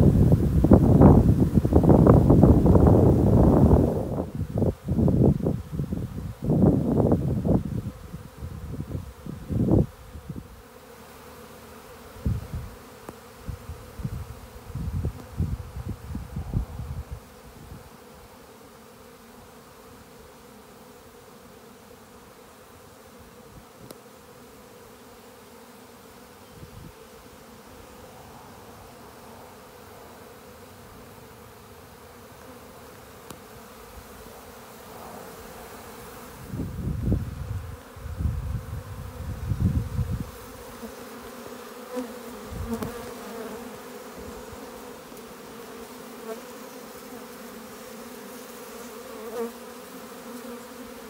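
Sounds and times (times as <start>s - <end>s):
bees humming in flight: 0.0s - 51.0s.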